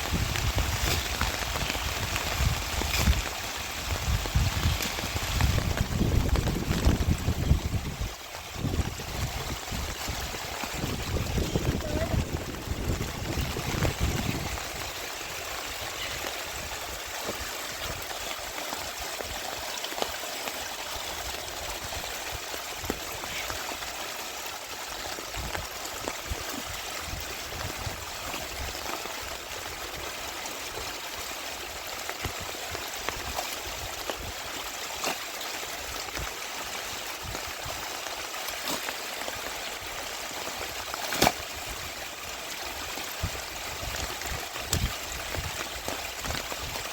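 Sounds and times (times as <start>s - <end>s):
steady rain: 0.0s - 46.9s
water running and trickling: 0.0s - 46.9s.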